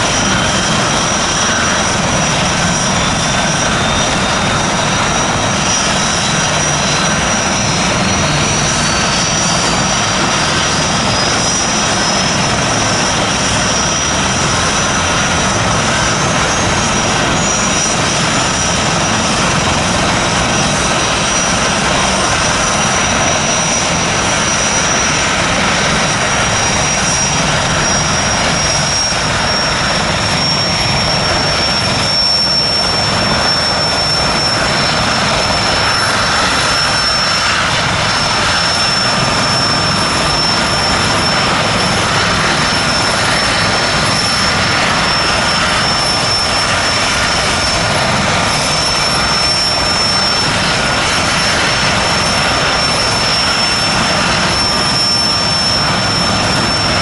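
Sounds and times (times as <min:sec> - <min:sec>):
helicopter rotor and engine noise: 0:00.0 - 0:57.0
high turbine whine: 0:00.0 - 0:57.0.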